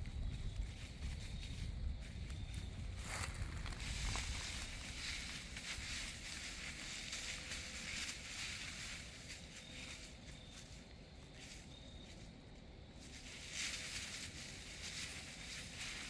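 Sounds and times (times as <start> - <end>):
dry leaves rustling: 0.0 - 12.3, 13.0 - 16.0.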